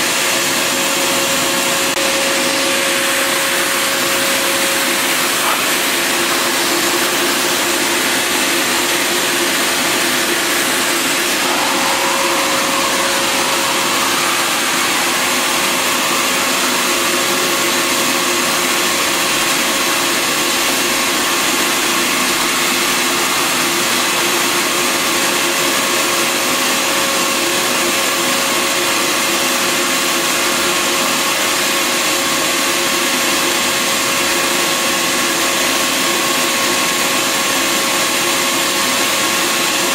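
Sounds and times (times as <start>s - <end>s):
shop vacuum running: 0.0s - 39.9s.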